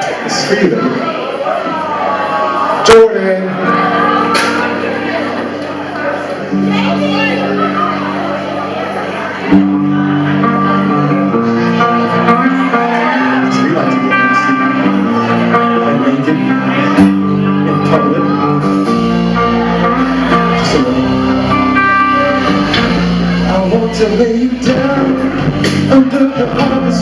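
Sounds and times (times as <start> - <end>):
guitar chords: 3.4 - 27.0
live band playing love song: 3.6 - 27.0.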